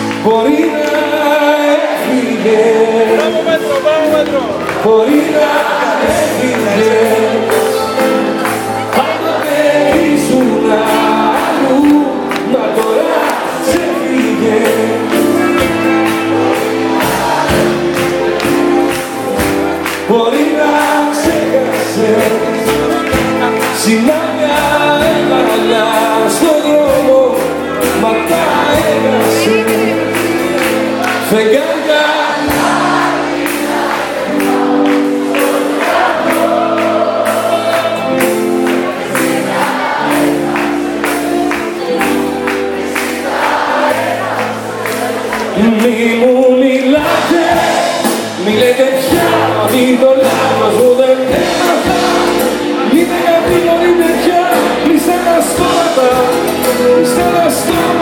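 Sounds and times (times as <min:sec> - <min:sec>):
man singing into a microphone: 0:00.0 - 0:40.2, 0:43.8 - 0:58.0
band playing sustained chords: 0:00.0 - 0:58.0.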